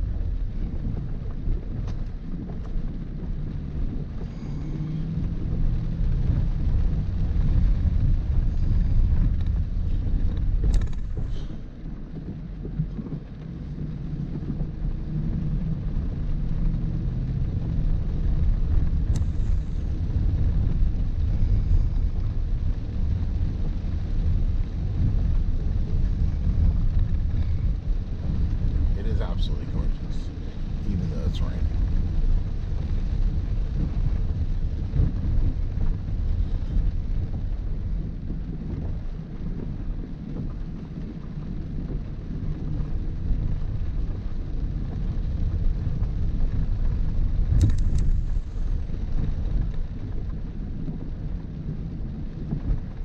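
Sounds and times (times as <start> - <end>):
car driving over gravel rumble: 0.0 - 53.0.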